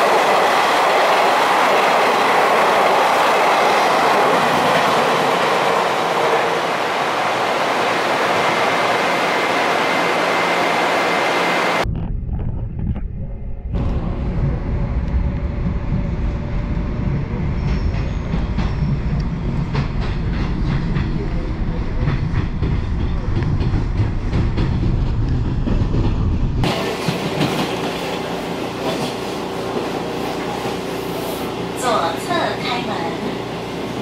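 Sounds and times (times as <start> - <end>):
moving train rumble: 0.0 - 34.0.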